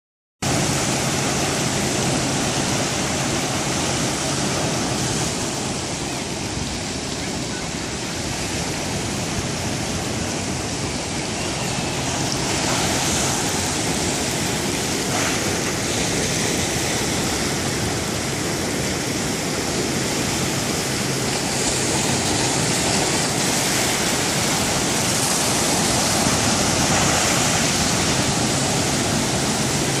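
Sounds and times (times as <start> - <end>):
ocean surf breaking over rocks: 0.4 - 30.0.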